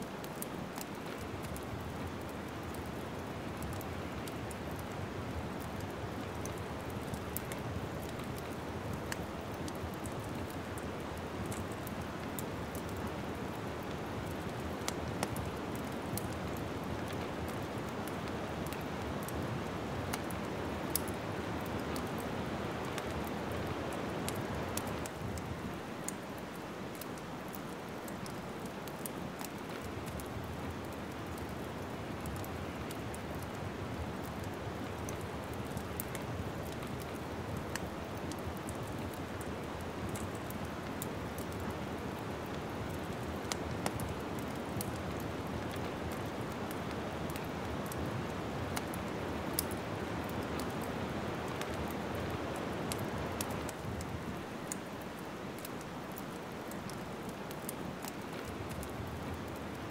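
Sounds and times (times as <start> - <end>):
wood fire crackling and popping: 0.1 - 59.9.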